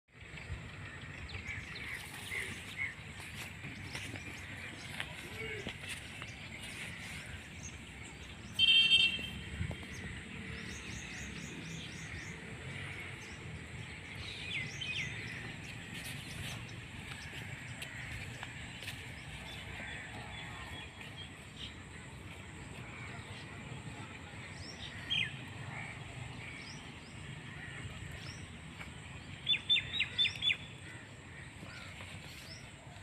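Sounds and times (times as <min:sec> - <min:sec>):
birds chirping and twittering: 0:00.1 - 0:33.0.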